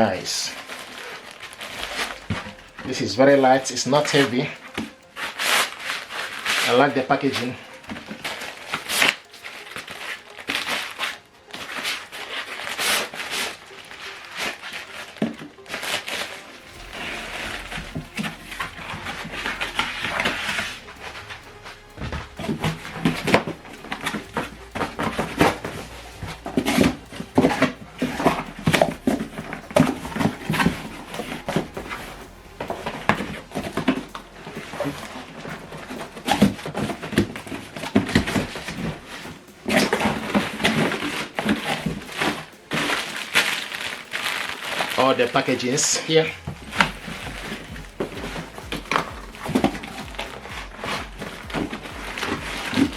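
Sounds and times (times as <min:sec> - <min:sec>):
low steady hum: 0:00.0 - 0:52.9
packaging rustling and scraping: 0:04.0 - 0:52.9.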